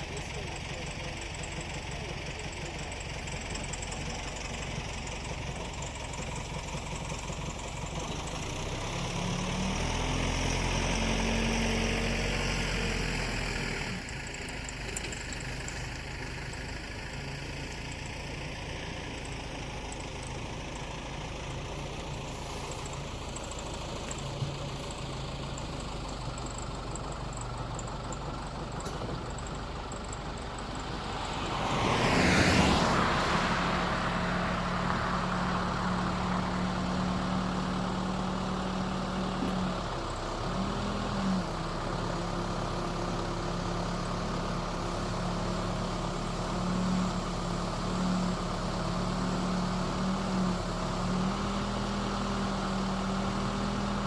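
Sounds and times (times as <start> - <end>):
engine running and revving: 0.0 - 54.0.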